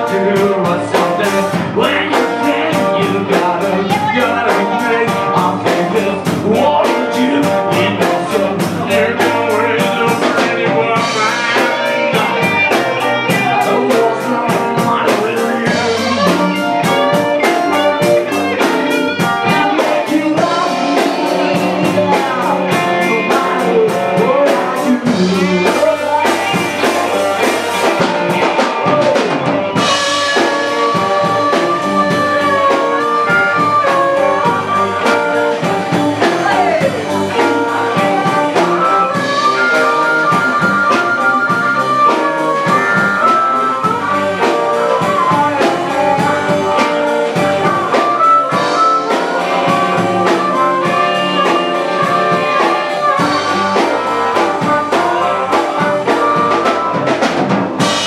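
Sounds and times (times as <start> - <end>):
amplified harmonica: 0.0 - 58.0
drums: 0.0 - 58.0
guitar: 0.0 - 58.0
person singing: 0.0 - 58.0.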